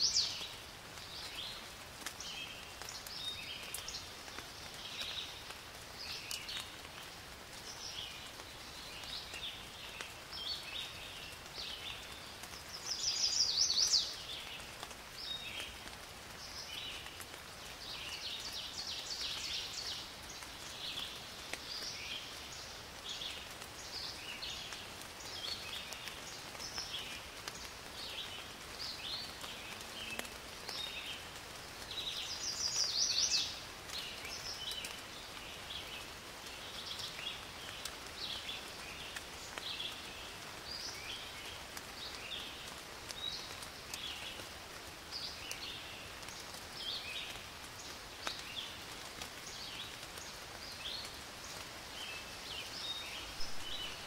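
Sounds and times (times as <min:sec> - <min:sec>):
songbirds chirping and singing: 0:00.0 - 0:15.8, 0:16.4 - 0:54.0
faint steady hiss: 0:00.0 - 0:54.0.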